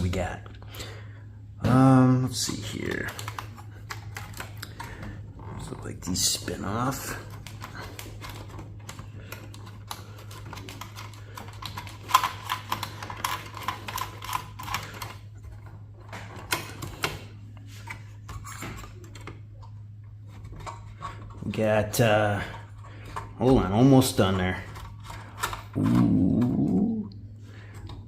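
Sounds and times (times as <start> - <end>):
steady low hum: 0.0 - 28.0
small parts clicking and rattling: 2.4 - 5.8, 6.4 - 17.3, 18.3 - 26.8.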